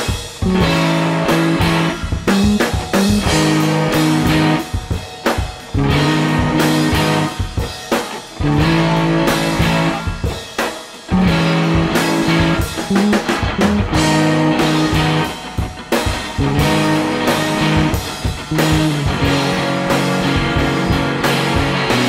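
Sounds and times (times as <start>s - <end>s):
drum-kit beat: 0.0s - 22.0s
guitar chords: 0.0s - 22.0s.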